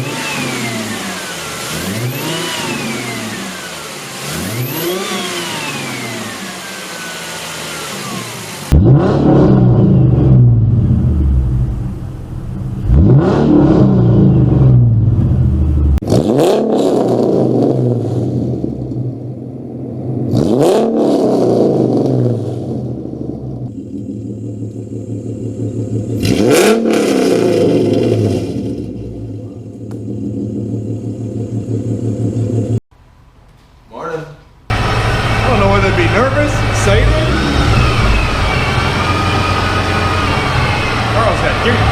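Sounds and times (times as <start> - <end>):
another car engine revving: 0.0 - 32.8, 34.7 - 41.9
car engine revving: 0.0 - 32.8, 34.7 - 41.9.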